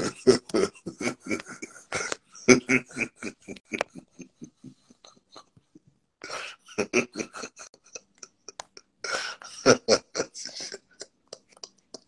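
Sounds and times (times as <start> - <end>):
man laughing hard: 0.0 - 5.4, 6.2 - 11.6.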